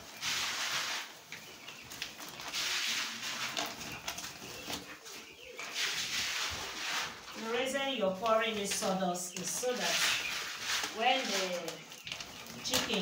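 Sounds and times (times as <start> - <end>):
sawdust rustling onto plastic tarp: 0.0 - 1.3, 2.1 - 3.8, 5.6 - 13.0
bird calls: 0.0 - 13.0.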